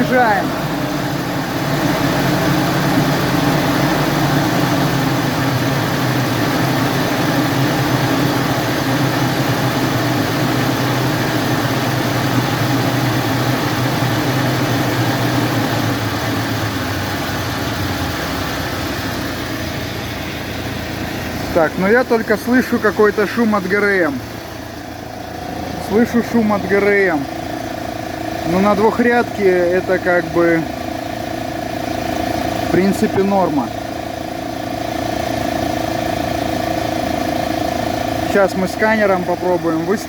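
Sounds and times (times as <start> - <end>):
engine revs falling to idle: 0.0 - 40.0.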